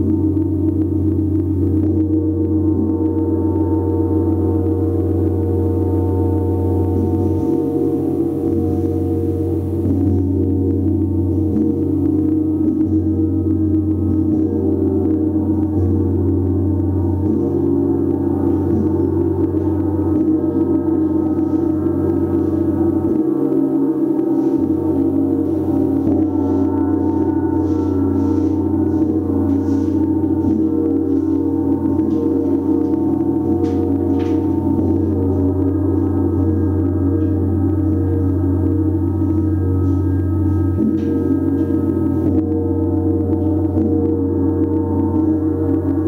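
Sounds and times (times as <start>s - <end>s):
gong ringing: 0.0s - 46.0s.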